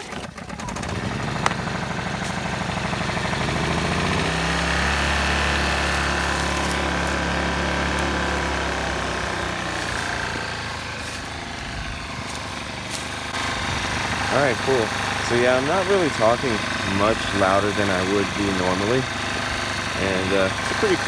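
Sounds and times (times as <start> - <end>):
portable generator engine running: 0.0 - 21.0.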